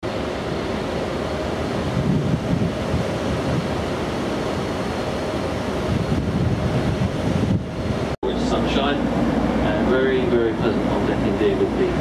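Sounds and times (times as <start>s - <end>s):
sea water rushing along hull: 0.0s - 12.0s
wind buffeting microphone: 1.5s - 12.0s.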